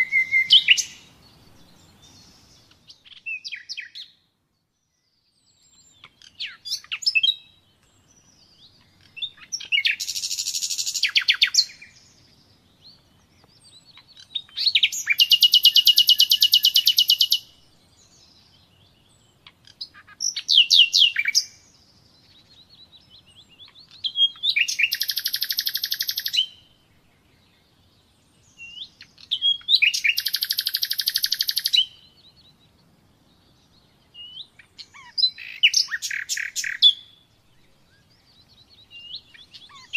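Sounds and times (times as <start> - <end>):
nightingale singing trills: 0.0 - 39.9.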